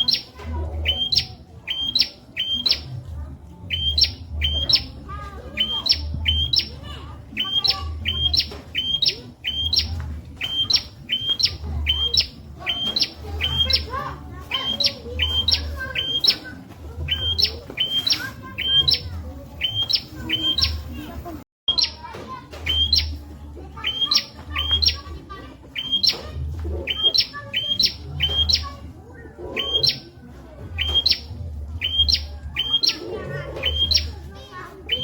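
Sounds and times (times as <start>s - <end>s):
bird chirping two-part calls: 0.0s - 3.0s, 3.6s - 21.0s, 21.7s - 23.2s, 23.8s - 25.0s, 25.8s - 28.8s, 29.6s - 30.1s, 30.8s - 34.3s.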